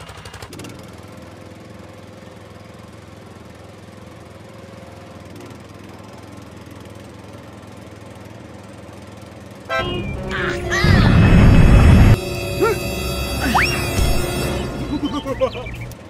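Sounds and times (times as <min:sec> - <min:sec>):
small tractor engine running: 0:00.0 - 0:16.0.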